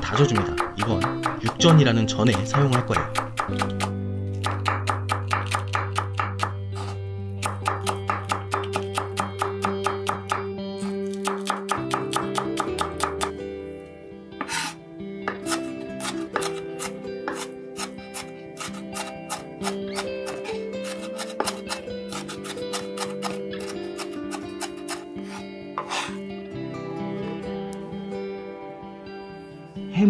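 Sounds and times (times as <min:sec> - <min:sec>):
background music: 0:00.0 - 0:30.0
knife chopping on wooden board: 0:00.2 - 0:10.4, 0:11.1 - 0:13.3, 0:14.4 - 0:26.2.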